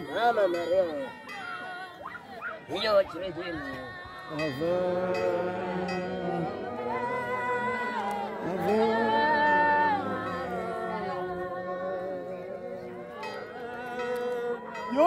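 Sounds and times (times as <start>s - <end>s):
unaccompanied group singing: 0.0s - 15.0s.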